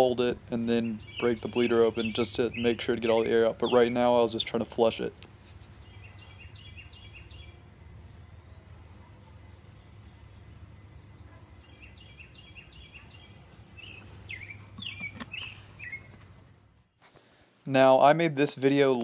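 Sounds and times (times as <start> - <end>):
birds chirping: 0.0 - 17.4
low background hum: 0.0 - 18.2.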